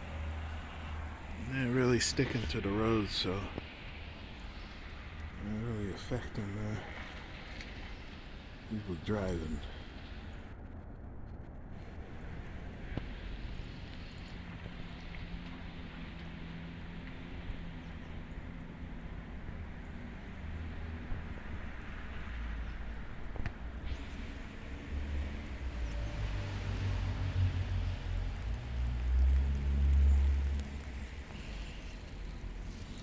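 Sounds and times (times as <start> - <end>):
tyres hissing on wet road: 0.0 - 10.5, 11.8 - 33.0
engine hum: 0.0 - 10.6, 11.7 - 33.0
wind: 0.0 - 33.0.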